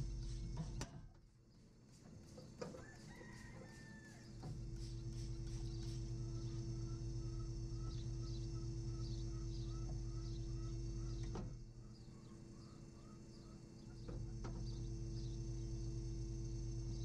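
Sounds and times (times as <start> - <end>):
steady machine hum: 0.0 - 17.0
faint regular chirps: 1.5 - 16.4.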